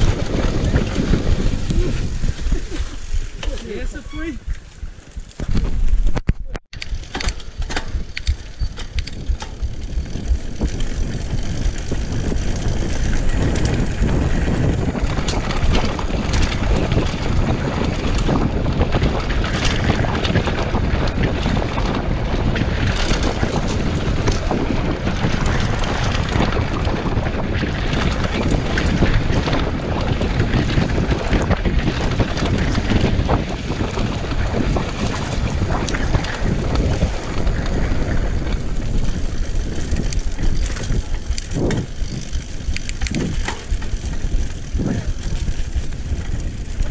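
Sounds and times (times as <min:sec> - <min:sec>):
bike rattling over rough ground: 0:00.0 - 0:46.9
tyre noise: 0:00.0 - 0:46.9
wind buffeting microphone: 0:00.0 - 0:46.9.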